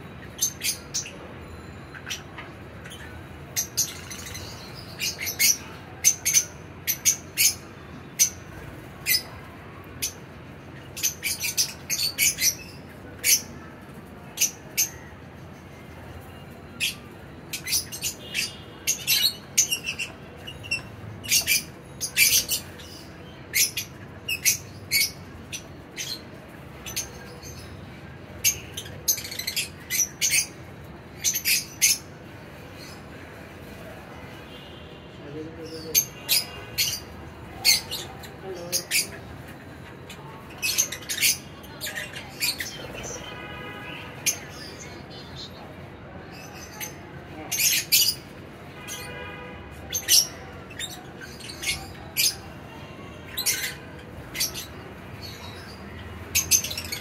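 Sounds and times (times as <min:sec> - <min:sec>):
lovebirds chirping: 0:00.0 - 0:15.2, 0:16.2 - 0:33.2, 0:35.6 - 0:52.5, 0:53.2 - 0:57.0.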